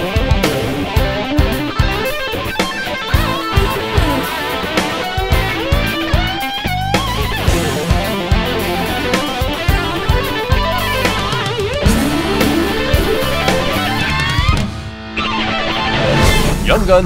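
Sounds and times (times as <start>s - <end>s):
steady drum beat: 0.0s - 14.9s
electric guitar lead: 0.0s - 16.7s.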